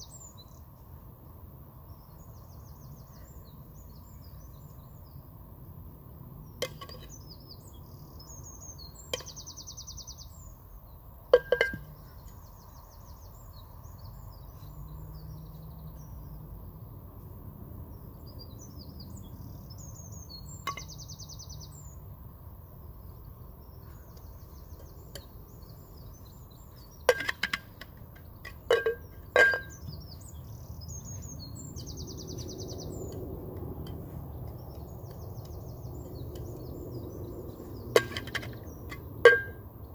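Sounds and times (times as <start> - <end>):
steady outdoor hum: 0.0 - 39.9.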